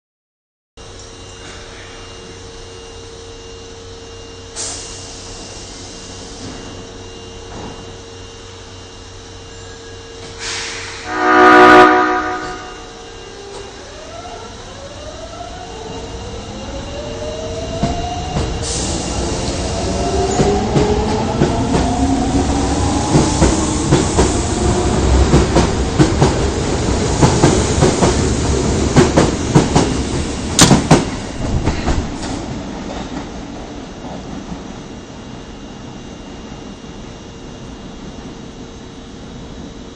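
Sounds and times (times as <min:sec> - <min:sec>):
subway train motor whine: 0:00.8 - 0:39.9.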